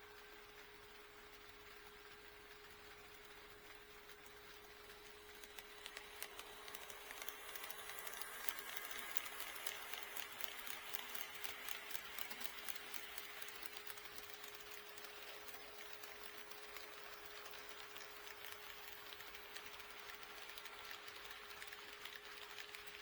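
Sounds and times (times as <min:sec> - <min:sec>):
model train wheels clicking: 0:00.0 - 0:23.0.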